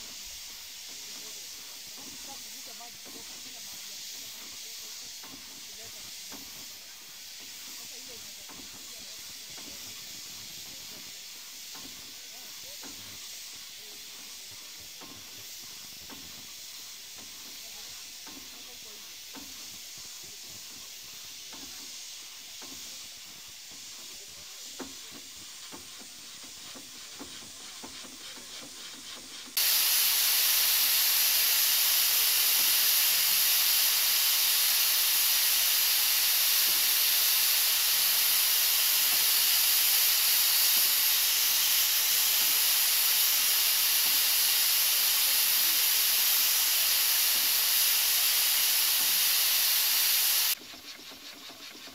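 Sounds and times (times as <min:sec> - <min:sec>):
hiss of escaping steam: 0:00.0 - 0:51.9
steam engine running: 0:00.0 - 0:51.9.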